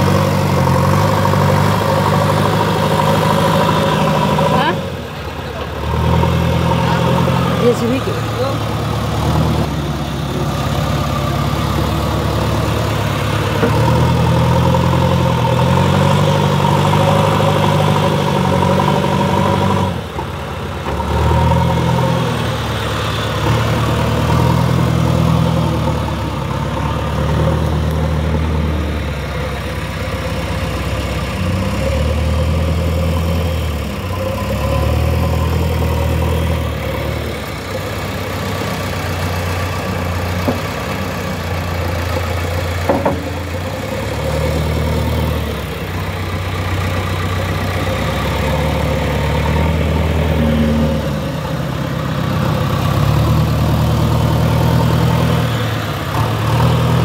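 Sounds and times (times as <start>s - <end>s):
diesel engine working: 0.0s - 57.0s.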